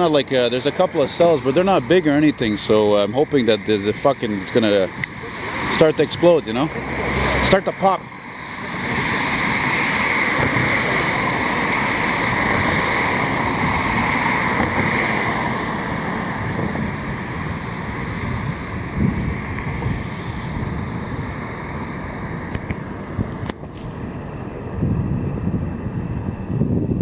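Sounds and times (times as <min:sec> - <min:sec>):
road traffic rushing past: 0:00.0 - 0:27.0.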